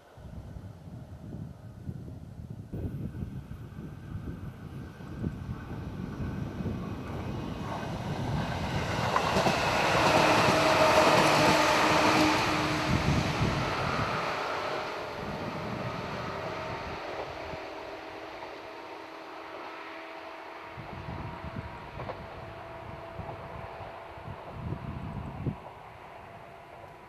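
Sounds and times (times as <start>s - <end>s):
wind rumble on microphone: 0.0s - 18.8s, 20.6s - 27.0s
electric train passing: 0.0s - 27.0s.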